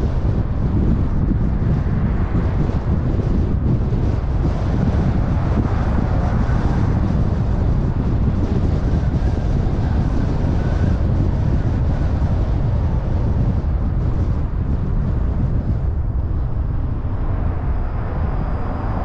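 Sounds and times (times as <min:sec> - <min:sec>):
car road noise rumble: 0:00.0 - 0:19.0
wind noise hiss: 0:00.0 - 0:19.0.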